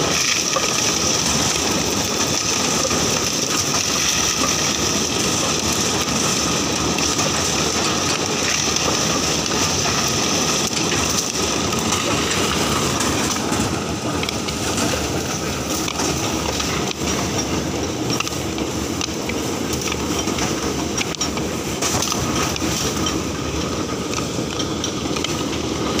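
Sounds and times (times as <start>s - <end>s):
dehusking machine running: 0.0s - 26.0s.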